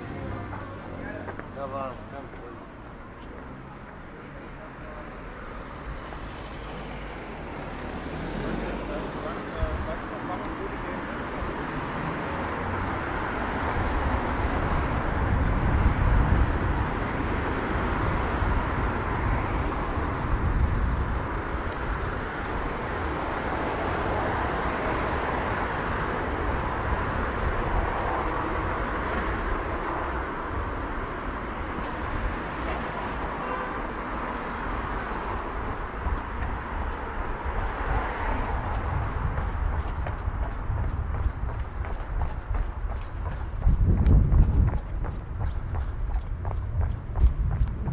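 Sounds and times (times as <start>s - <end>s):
traffic noise with low rumble: 0.0s - 47.9s.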